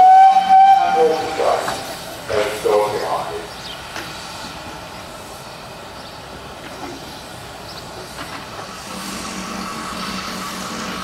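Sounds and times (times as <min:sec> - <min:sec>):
distant steam locomotive: 0:00.0 - 0:11.0.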